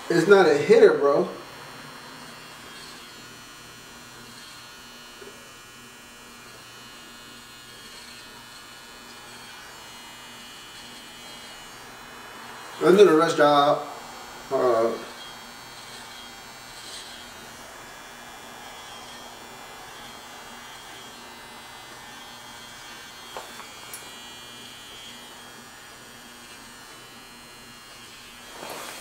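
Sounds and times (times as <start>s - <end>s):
electric hair trimmer buzzing: 0.0s - 29.0s.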